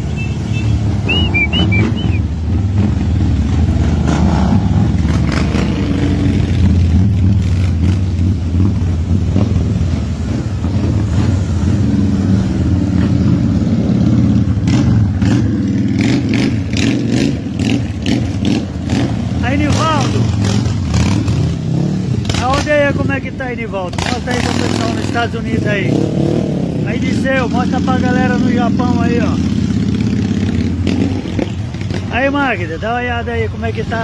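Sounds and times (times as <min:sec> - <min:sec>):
motorcycle engines: 0:00.0 - 0:34.0.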